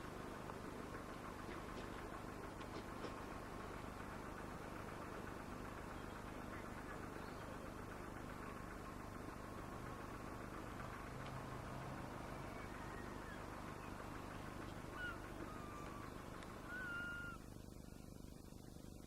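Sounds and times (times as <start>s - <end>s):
electric tram rumbling on track: 0.0s - 17.7s
low motor hum: 0.0s - 19.0s.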